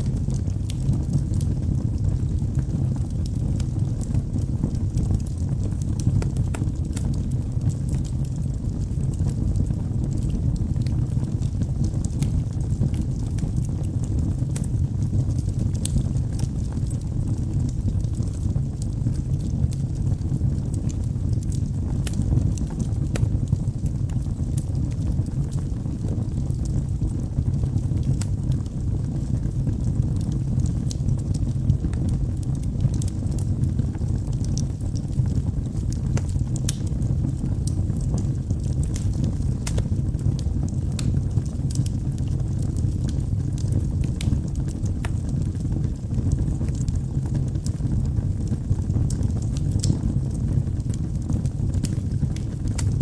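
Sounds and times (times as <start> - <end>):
fire roaring: 0.0 - 53.0
logs crackling and popping: 0.0 - 53.0.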